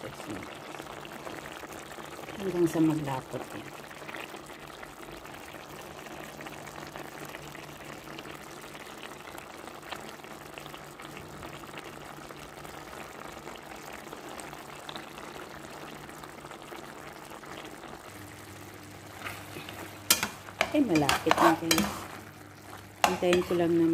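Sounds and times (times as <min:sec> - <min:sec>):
sauce bubbling and popping: 0:00.1 - 0:23.9.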